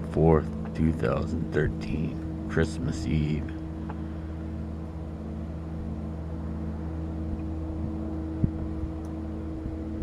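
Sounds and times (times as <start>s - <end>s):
low droning hum: 0.0s - 10.0s.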